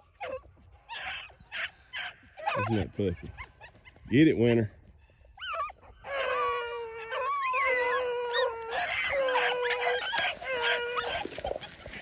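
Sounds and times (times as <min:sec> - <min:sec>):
dogs howling and baying: 0:00.0 - 0:04.0, 0:05.0 - 0:12.0
dog yelp: 0:00.1 - 0:04.0, 0:05.4 - 0:12.0.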